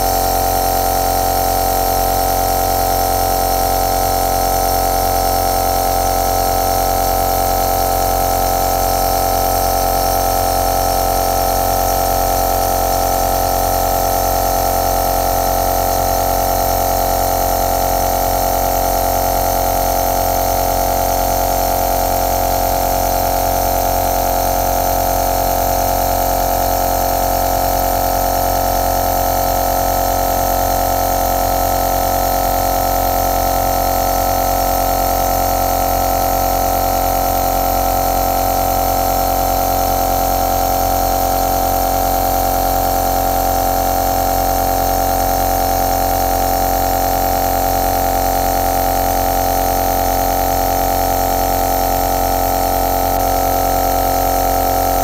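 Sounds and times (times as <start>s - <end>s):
compressor nebulizer humming: 0.0s - 55.0s.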